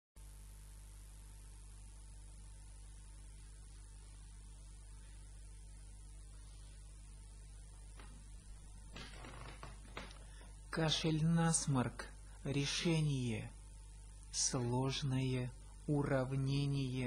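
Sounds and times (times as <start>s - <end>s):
electrical mains hum: 0.2s - 17.0s.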